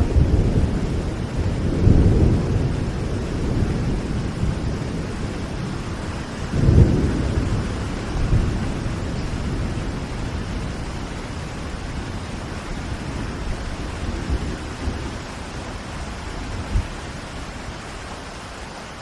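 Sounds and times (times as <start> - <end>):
low rumbles of thunder: 0.0 - 17.8
steady rain: 0.0 - 19.0.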